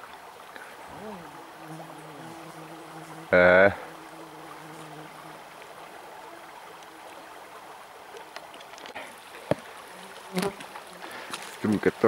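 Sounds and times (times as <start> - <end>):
small river flowing: 0.0 - 12.0.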